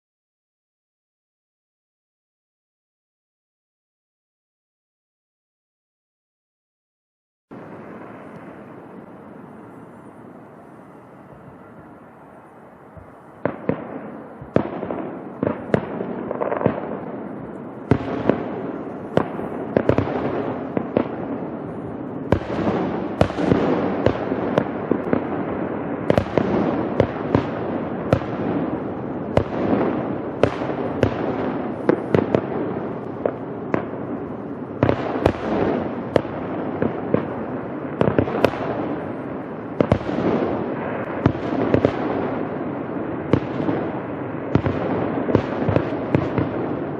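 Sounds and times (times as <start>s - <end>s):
distant fireworks bangs: 7.5s - 46.9s.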